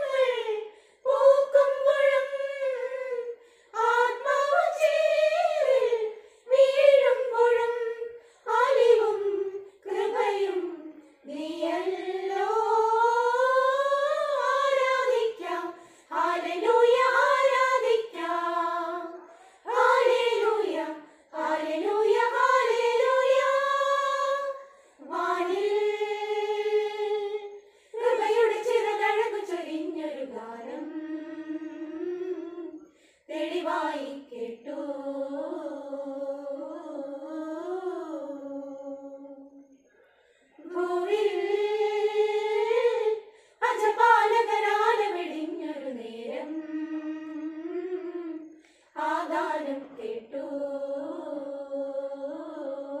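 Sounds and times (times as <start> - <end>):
women's choir singing a carol: 0.0 - 39.6, 40.5 - 53.0.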